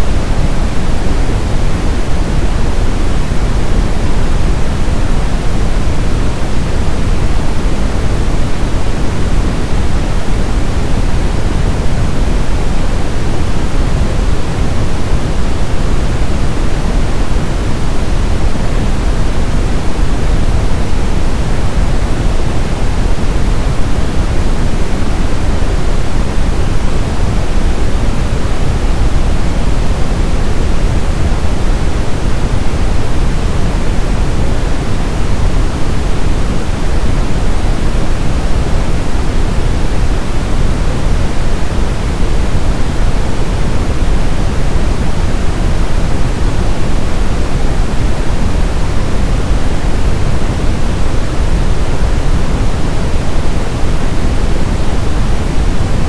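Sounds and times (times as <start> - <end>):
brown noise deep hiss: 0.0 - 56.0.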